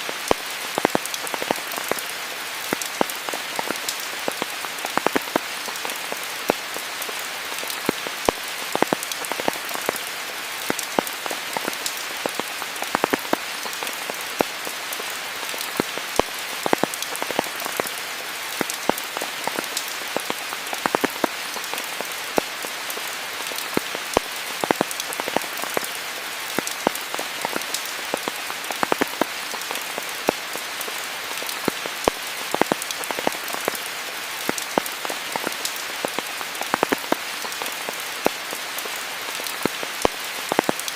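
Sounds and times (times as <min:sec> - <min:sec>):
rain falling: 0:00.0 - 0:40.9
raindrops pattering close by: 0:00.0 - 0:40.9.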